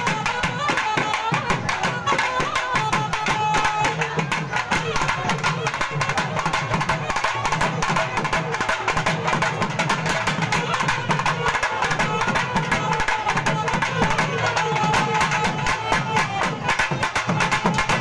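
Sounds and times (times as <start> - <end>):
barrel drums beating fast: 0.0 - 18.0.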